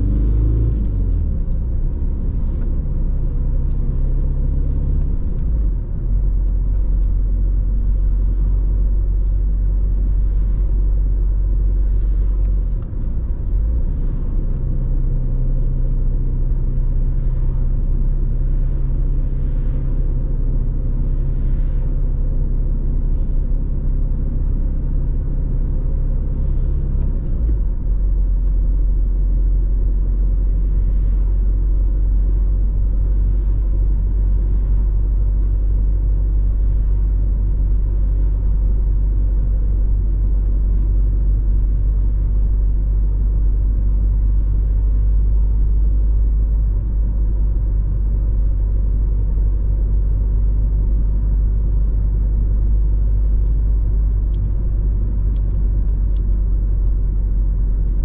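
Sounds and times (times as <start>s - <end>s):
car engine and road noise drone: 0.0s - 58.0s.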